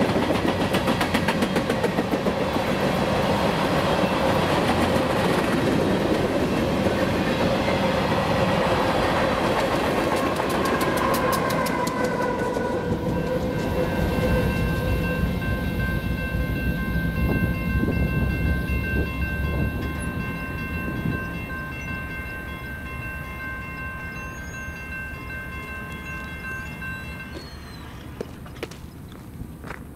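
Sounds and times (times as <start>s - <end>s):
locomotive engine and wheels rumble: 0.0s - 29.9s.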